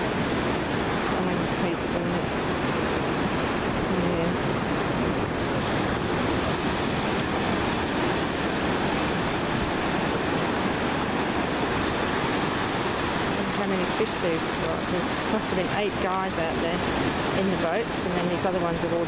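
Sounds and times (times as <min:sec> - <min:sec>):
surf breaking on beach: 0:00.0 - 0:19.0.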